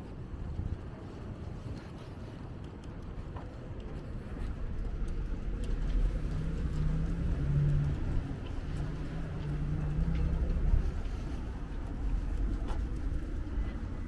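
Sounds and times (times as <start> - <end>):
road traffic rumble: 0.4 - 14.0.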